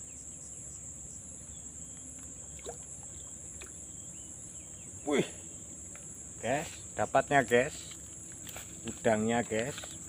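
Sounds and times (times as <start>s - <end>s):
insects chirping chorus: 0.0s - 10.0s.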